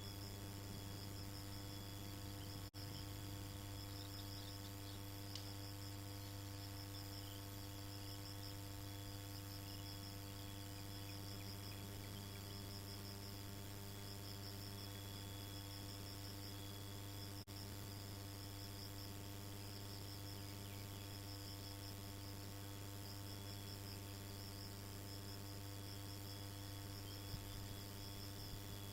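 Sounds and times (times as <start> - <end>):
constant low hum: 0.0 - 28.9
insects trilling: 0.0 - 28.9.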